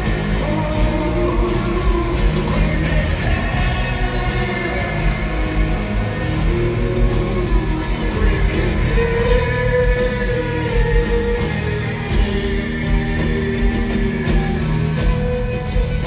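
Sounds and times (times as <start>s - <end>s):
live rock band playing: 0.0s - 16.0s
singer's voice: 0.0s - 16.0s.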